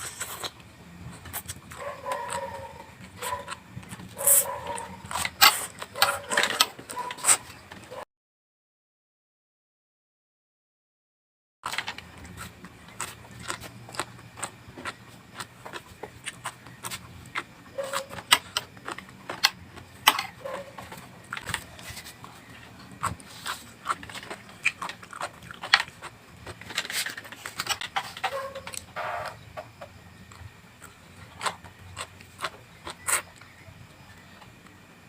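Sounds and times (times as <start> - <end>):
crunching raw vegetables: 0.0 - 8.0, 11.7 - 35.0.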